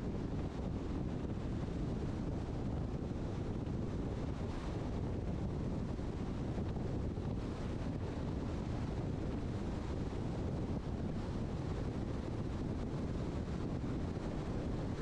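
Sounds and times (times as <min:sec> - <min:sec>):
car wind and road noise: 0:00.0 - 0:15.0.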